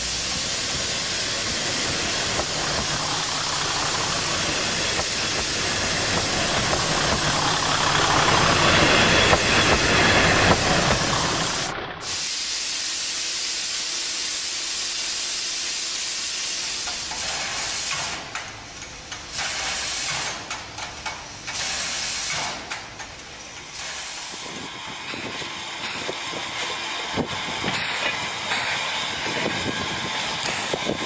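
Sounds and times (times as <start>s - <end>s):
steam locomotive hissing steam: 0.0s - 31.0s.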